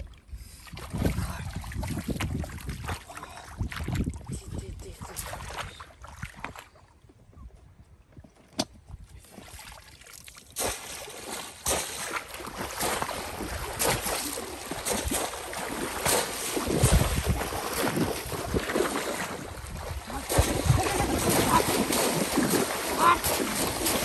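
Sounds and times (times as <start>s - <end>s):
water splashing: 0.7s - 6.8s, 9.3s - 24.0s.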